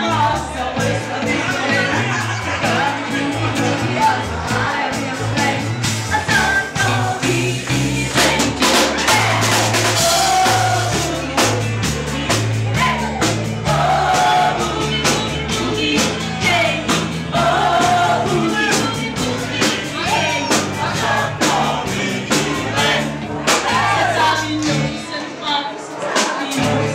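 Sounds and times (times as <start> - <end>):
lead vocal singing: 0.0 - 26.9
live band playing boogie-woogie: 0.0 - 26.9.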